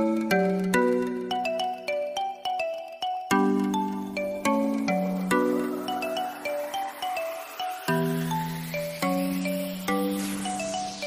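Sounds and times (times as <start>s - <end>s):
bright melody of struck notes: 0.0s - 11.0s.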